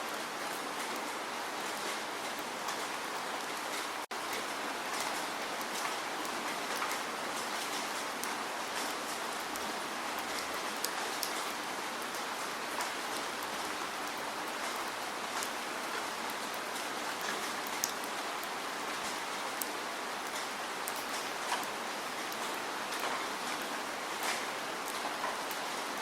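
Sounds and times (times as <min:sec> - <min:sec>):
steady rain falling: 0:00.0 - 0:26.0
raindrops ticking on a surface: 0:00.1 - 0:26.0.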